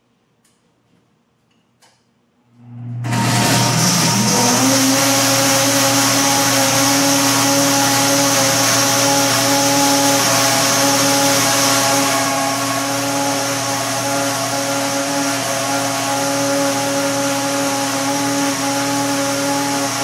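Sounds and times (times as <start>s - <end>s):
blender motor whirring: 2.6s - 20.0s.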